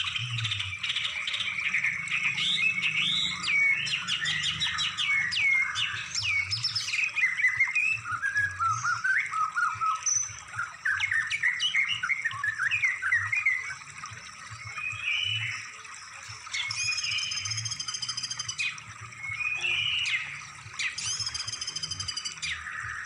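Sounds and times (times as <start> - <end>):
songbird chirps and trills: 0.0 - 23.0.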